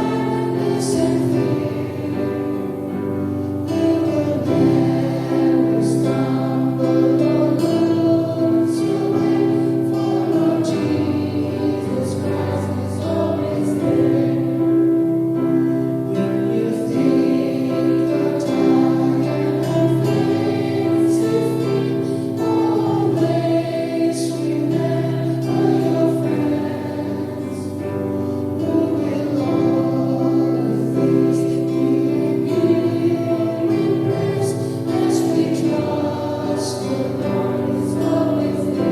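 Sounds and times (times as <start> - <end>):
choir singing worship song: 0.0 - 38.9.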